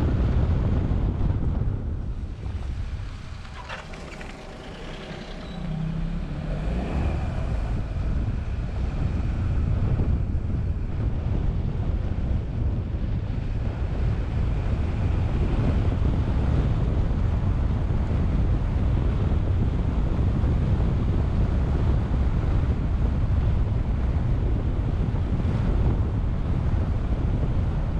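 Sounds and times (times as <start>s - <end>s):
road and engine rumble: 0.0s - 27.9s
wind buffeting microphone: 0.0s - 27.9s.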